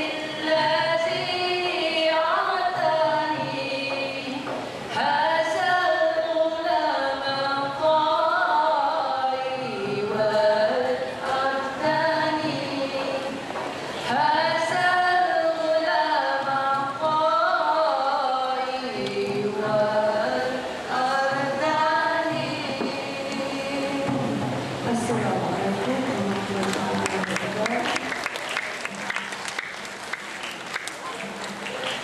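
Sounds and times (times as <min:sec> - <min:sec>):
group of women singing: 0:00.0 - 0:27.2.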